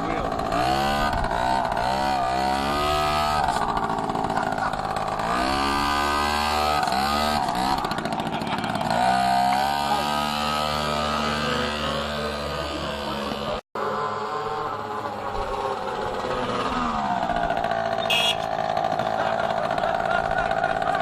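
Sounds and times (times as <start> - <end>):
small engine revving: 0.0 - 21.0.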